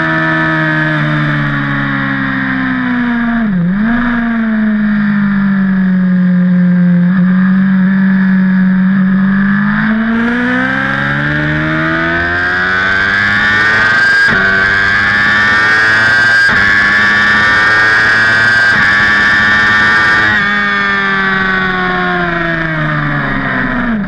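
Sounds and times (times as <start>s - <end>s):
motorcycle engine at speed: 0.0s - 24.0s.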